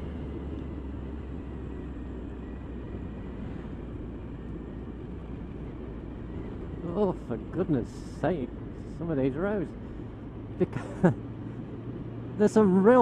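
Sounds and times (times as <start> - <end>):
motorcycle engine rumble: 0.0 - 13.0
wind and road noise: 0.0 - 13.0.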